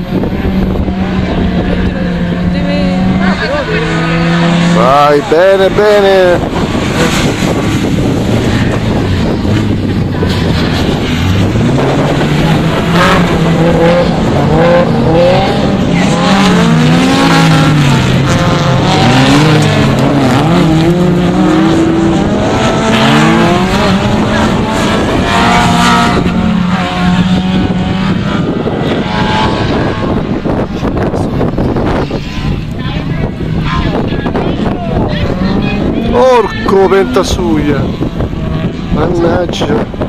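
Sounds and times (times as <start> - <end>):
race car engines revving: 0.0 - 40.0.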